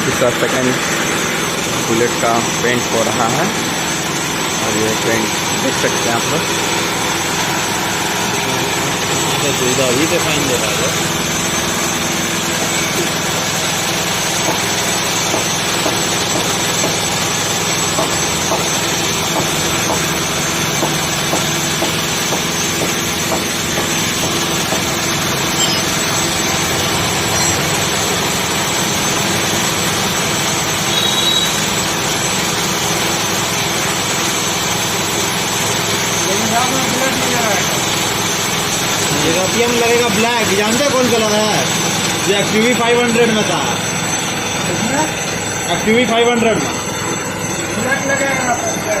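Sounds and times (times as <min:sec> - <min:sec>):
air compressor motor droning: 0:00.0 - 0:49.0.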